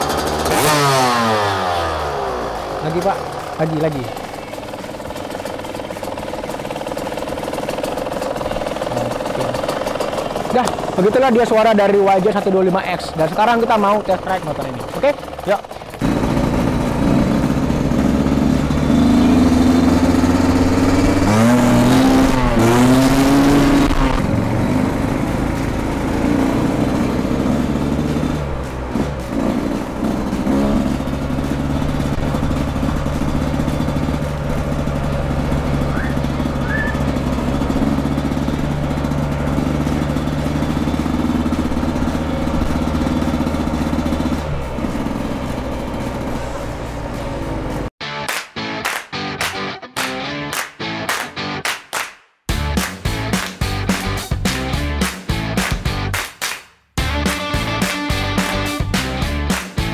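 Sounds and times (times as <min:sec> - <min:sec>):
dirt bike engine revving: 0:00.0 - 0:47.9, 0:52.5 - 0:56.2, 0:57.0 - 0:59.9.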